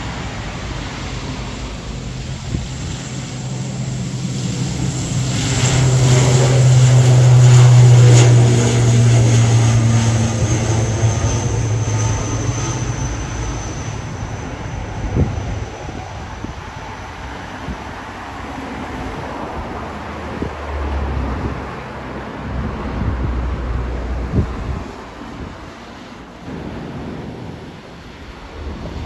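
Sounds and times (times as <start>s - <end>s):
propeller airplane passing by: 0.0s - 29.0s.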